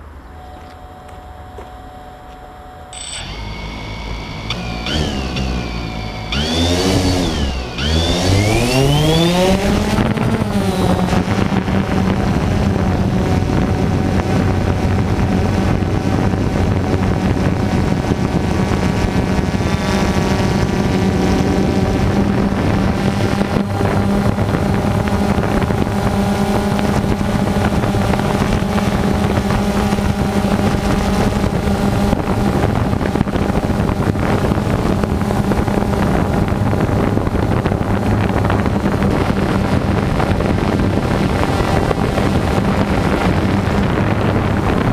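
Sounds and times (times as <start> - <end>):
drone propellers whining and buzzing: 0.0 - 44.9.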